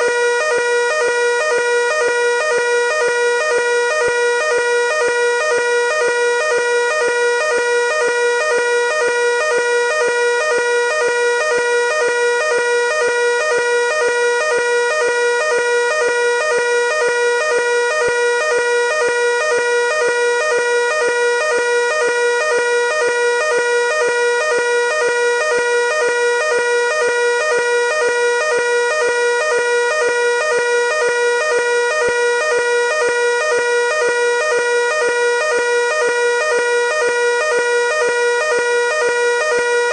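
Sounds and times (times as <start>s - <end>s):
fire alarm pulsing tone: 0.0s - 39.9s.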